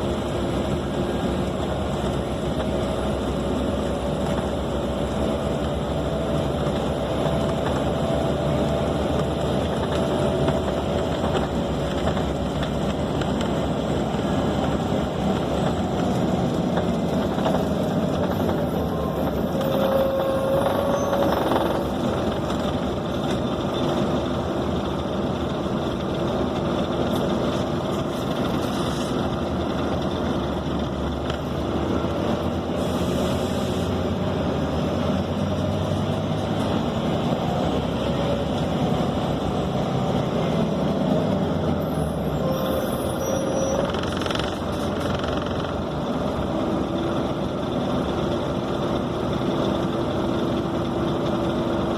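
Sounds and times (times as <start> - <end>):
bus diesel engine: 0.0 - 51.9
road noise: 0.0 - 51.9.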